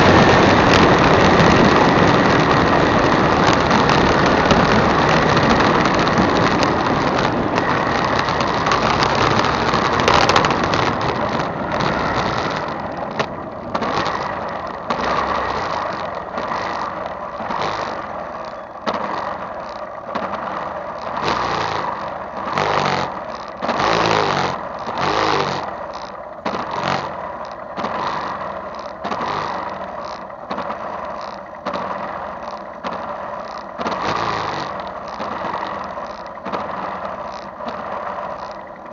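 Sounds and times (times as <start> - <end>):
motorcycle engine: 0.0 - 38.9
motorcycle engine idling: 0.0 - 38.9.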